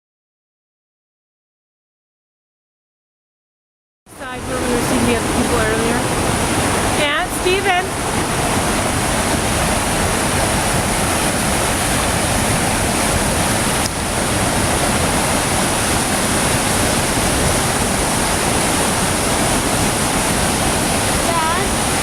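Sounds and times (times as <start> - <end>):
river rapids roaring: 4.1 - 22.0.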